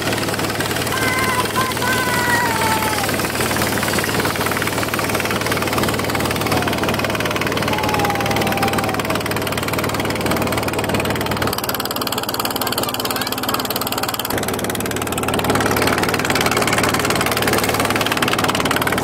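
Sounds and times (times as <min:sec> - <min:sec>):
motorboat engine running: 0:00.0 - 0:19.0
water rushing past hull: 0:00.0 - 0:19.0.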